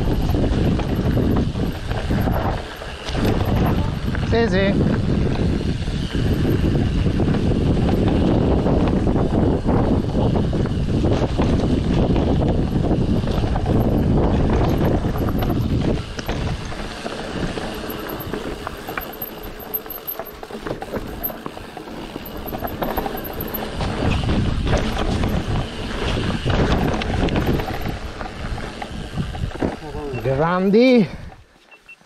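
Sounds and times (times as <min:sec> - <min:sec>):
wind buffeting microphone: 0:00.0 - 0:31.5
bike rattling over rough ground: 0:00.0 - 0:31.7.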